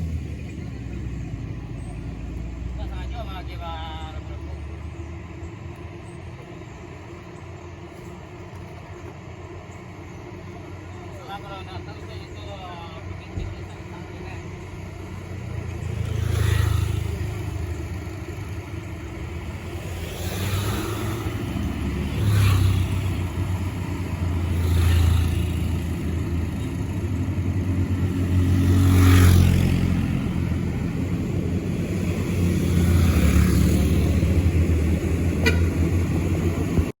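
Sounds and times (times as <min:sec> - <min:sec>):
steady engine drone: 0:00.0 - 0:37.0
vehicles passing: 0:00.0 - 0:37.0.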